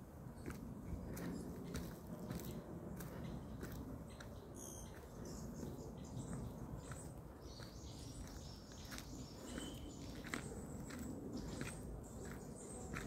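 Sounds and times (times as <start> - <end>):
footsteps on dirt path: 0.1 - 13.0
birds chirping and trilling: 0.4 - 13.0.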